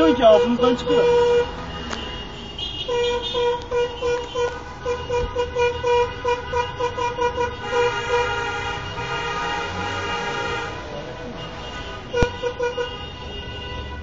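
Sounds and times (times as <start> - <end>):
car horns honking: 0.0 - 14.0.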